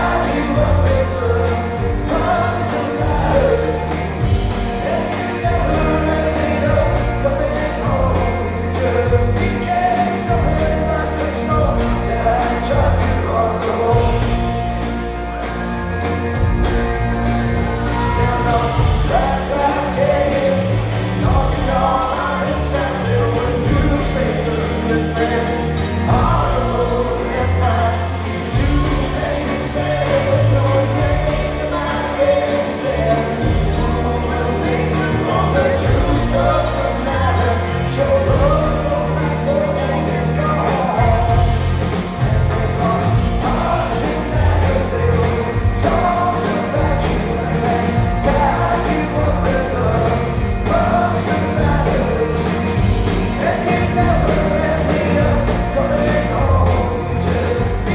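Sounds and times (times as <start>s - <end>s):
live rock band playing: 0.0s - 57.9s
person singing: 0.0s - 57.9s.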